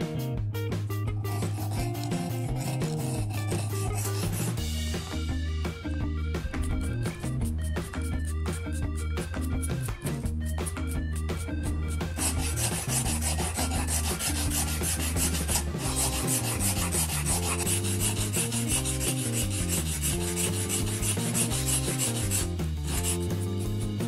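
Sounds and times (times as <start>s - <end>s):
blade rasping on whetstone: 1.2s - 4.6s, 6.6s - 24.0s.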